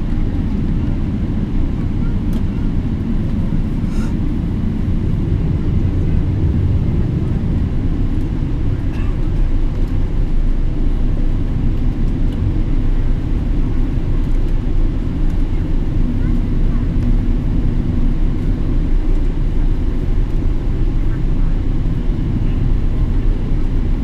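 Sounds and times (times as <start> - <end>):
jet engine low rumble: 0.0 - 24.0.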